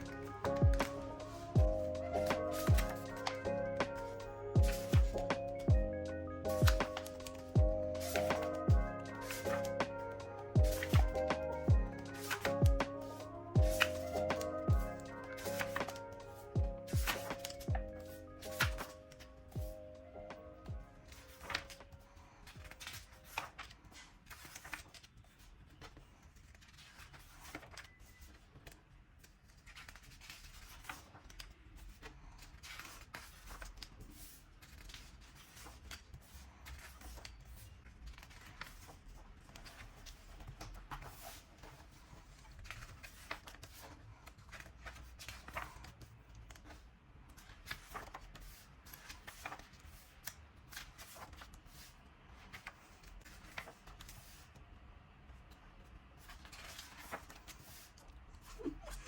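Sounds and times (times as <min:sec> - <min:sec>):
paper rustling: 0:00.0 - 0:05.7, 0:06.5 - 0:19.7, 0:21.0 - 0:54.6, 0:56.2 - 0:59.0.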